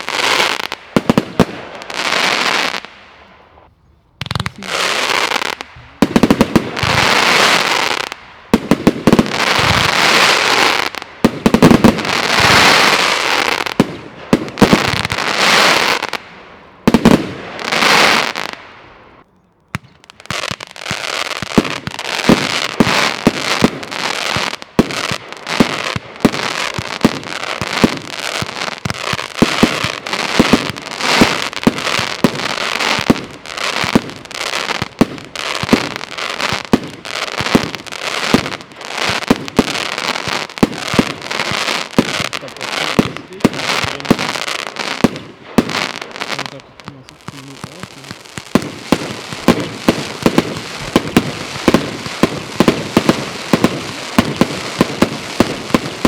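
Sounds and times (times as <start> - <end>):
rapid firework shots: 4.2 - 16.1, 19.8 - 56.0.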